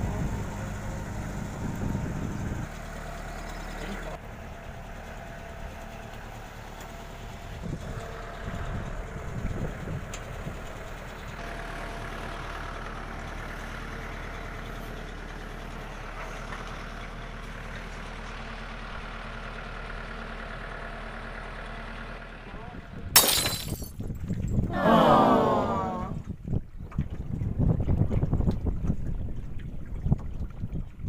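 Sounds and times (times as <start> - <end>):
tractor diesel engine running: 0.0 - 26.2.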